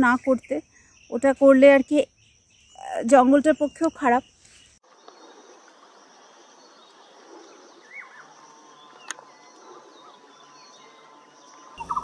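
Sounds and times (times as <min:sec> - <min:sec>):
faint woodland ambience: 0:00.0 - 0:12.0.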